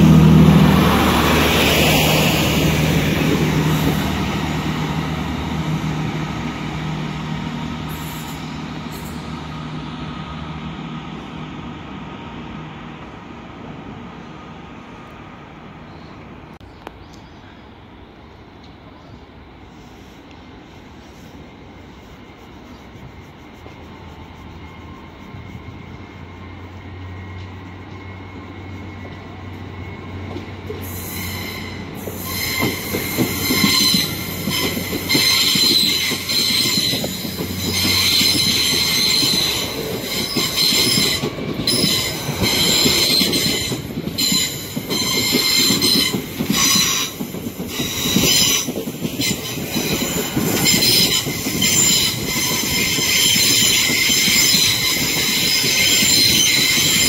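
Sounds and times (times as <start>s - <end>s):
train wheels squealing: 0.0s - 12.3s, 19.0s - 57.0s
train passing: 0.0s - 57.0s.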